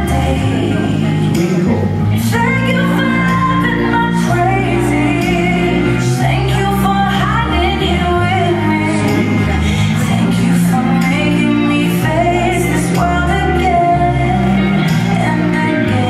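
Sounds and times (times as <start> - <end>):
pop song with singer: 0.0 - 16.0.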